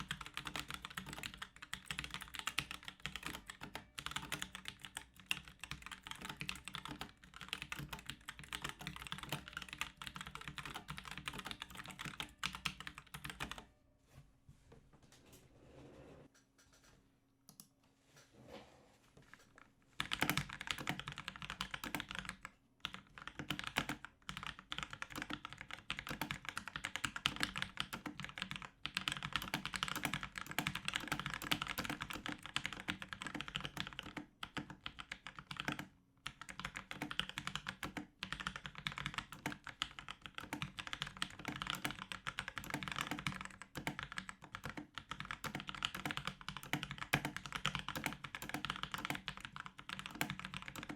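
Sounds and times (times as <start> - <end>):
mechanical keyboard typing: 0.0 - 13.7, 19.3 - 50.9.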